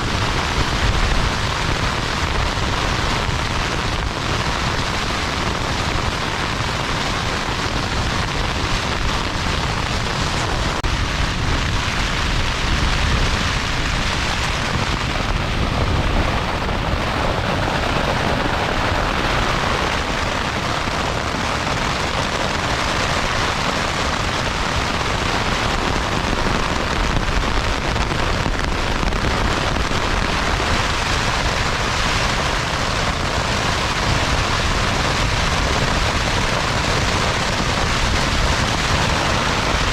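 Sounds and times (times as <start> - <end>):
heavy rain: 0.0 - 39.9
strong wind: 0.0 - 39.9.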